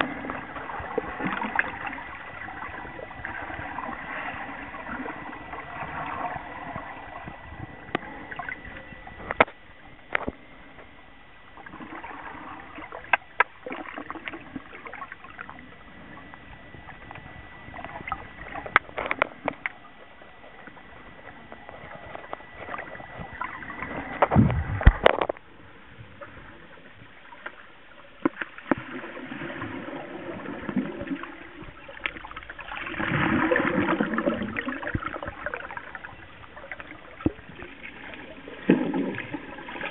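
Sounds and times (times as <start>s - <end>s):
muffled underwater noise: 0.0s - 39.9s
water bubbling: 0.0s - 39.9s.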